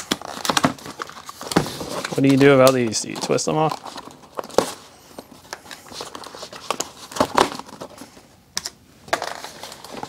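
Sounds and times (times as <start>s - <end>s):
plastic and cardboard scrapes and crinkles: 0.0s - 8.2s.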